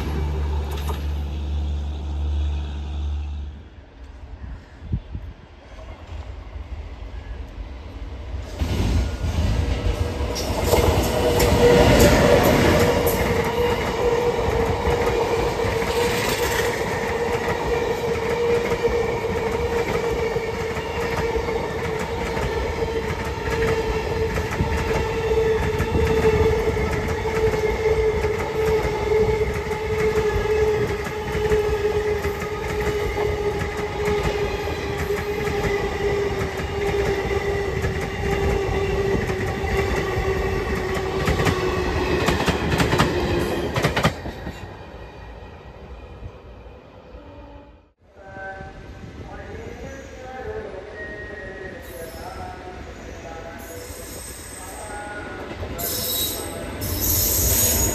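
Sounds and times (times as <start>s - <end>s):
diesel locomotive rushing past: 0.0s - 49.2s.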